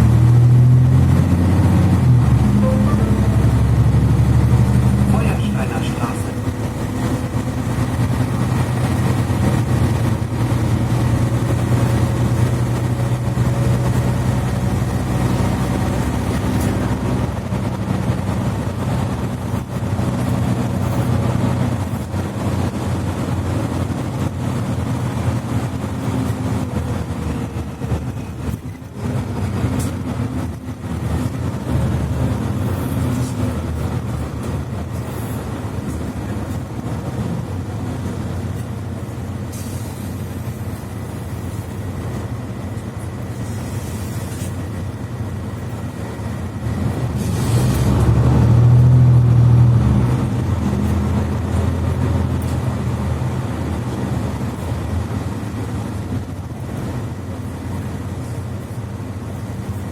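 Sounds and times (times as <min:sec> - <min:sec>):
bus diesel engine hum: 0:00.0 - 0:59.9
road and rolling noise: 0:00.0 - 0:59.9.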